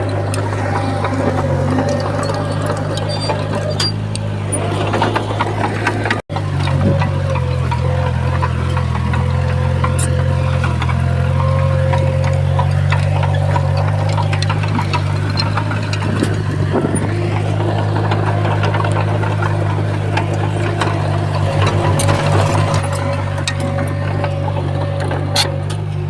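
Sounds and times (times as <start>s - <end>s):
diesel engine running: 0.0s - 26.0s
machine clanks and knocks: 0.0s - 26.0s.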